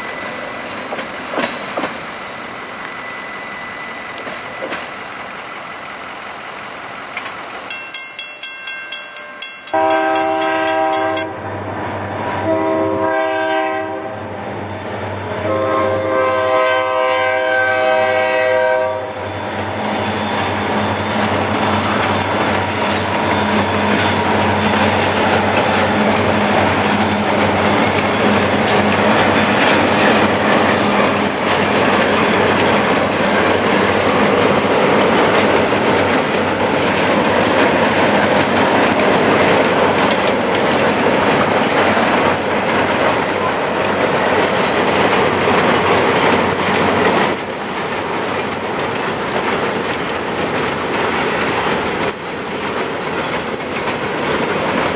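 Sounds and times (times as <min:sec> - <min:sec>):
train wheels rumbling on rail: 0:00.0 - 0:54.9
clickety-clack of rail joints: 0:00.1 - 0:03.0, 0:04.2 - 0:05.1, 0:07.1 - 0:11.8, 0:16.6 - 0:54.9.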